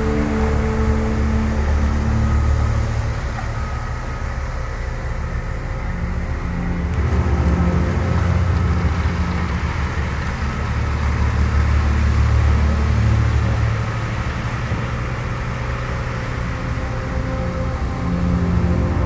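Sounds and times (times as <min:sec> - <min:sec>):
snowplow engine droning: 0:00.0 - 0:19.0.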